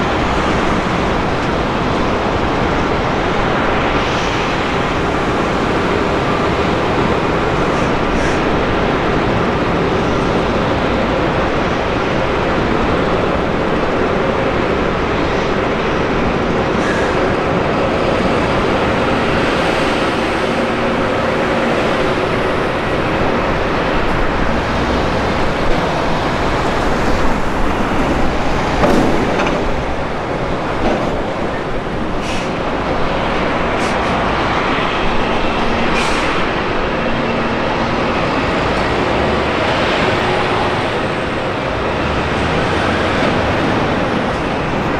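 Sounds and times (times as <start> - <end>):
jet engine noise: 0.0 - 44.9.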